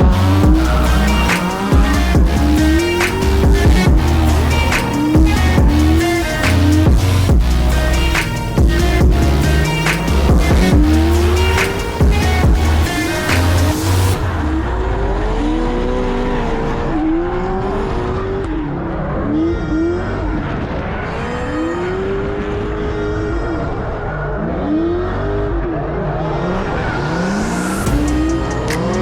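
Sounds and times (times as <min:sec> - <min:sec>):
car engine revving hard: 0:00.0 - 0:29.0.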